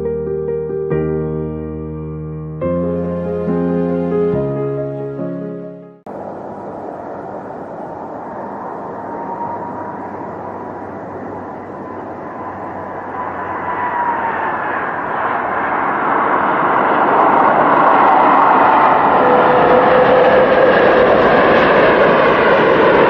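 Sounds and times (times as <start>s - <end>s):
jet airliner engines landing: 2.7s - 23.0s.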